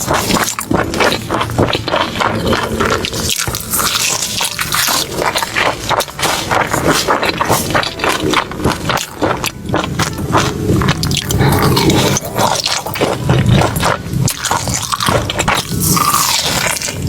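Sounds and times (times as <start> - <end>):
wet chewing and mouth sounds: 0.0 - 17.0.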